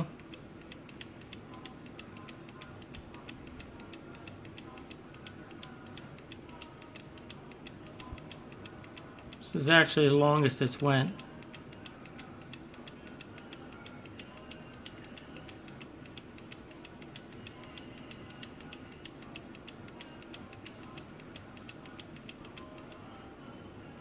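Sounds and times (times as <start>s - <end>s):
clock ticking rapidly: 0.0s - 23.0s.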